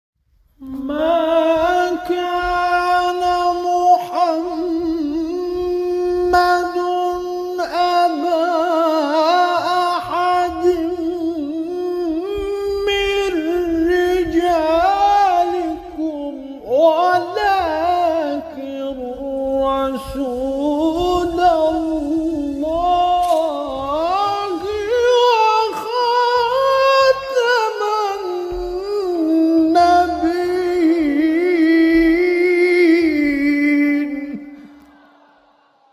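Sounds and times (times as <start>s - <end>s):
man chanting: 0.6s - 35.3s.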